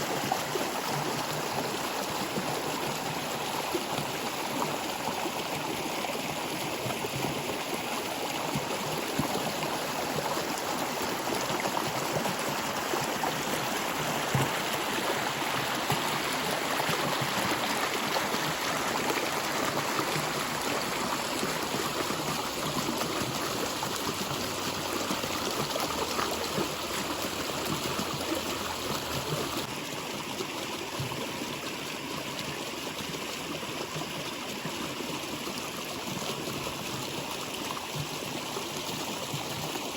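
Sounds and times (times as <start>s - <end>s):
water flowing: 0.0s - 39.9s.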